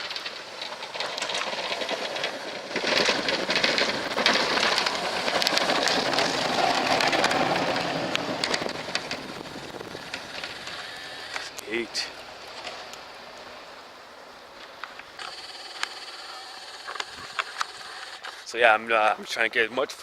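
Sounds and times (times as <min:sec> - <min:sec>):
snowplow blade scraping snow: 0:00.0 - 0:18.6.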